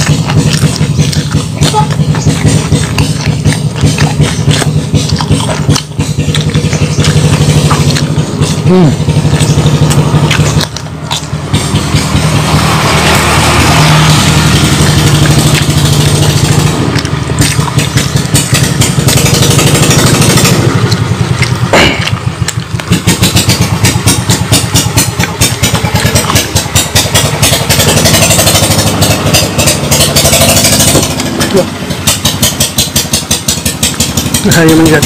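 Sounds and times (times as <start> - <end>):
small engine running: 0.0 - 35.0.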